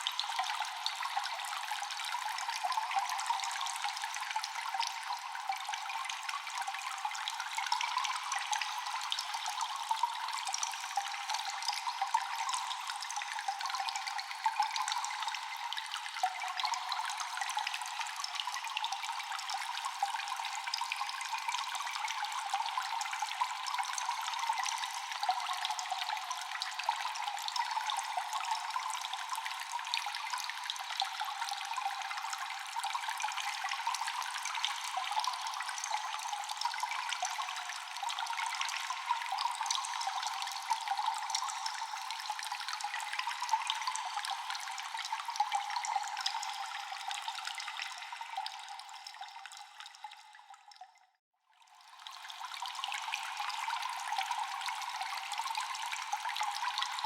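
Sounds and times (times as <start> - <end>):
water dripping in a cave: 0.0 - 57.0.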